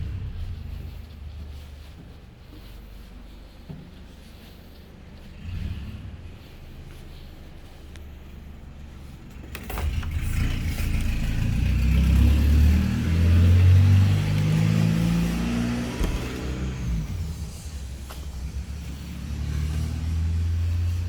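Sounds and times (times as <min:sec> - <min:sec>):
vehicle engine passing by: 0:00.0 - 0:03.0, 0:04.4 - 0:08.4, 0:09.0 - 0:21.0.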